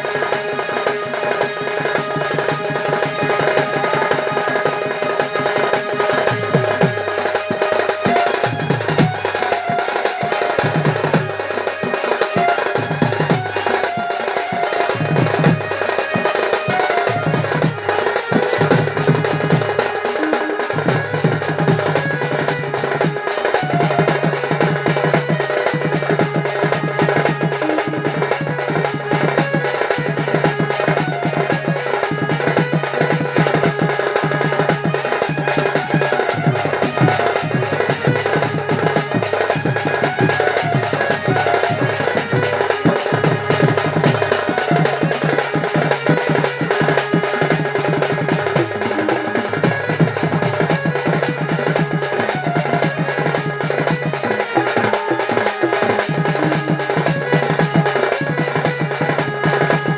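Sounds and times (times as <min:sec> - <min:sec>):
drums playing fast rhythm: 0:00.0 - 0:59.9.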